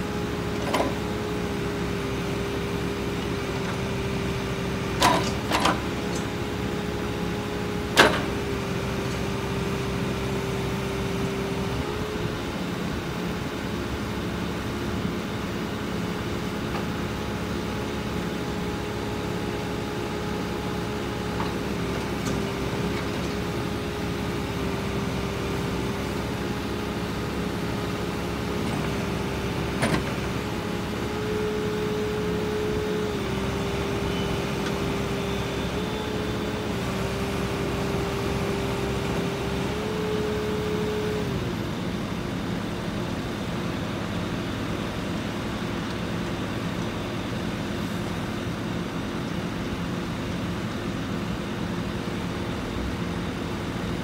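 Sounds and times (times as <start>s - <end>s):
hydraulic whine: 0.0s - 51.2s
diesel engine running: 0.0s - 54.0s.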